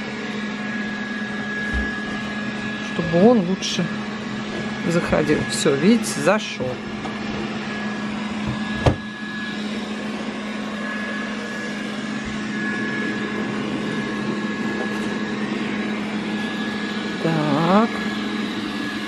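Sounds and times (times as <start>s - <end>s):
robot vacuum whirring: 0.1s - 19.0s.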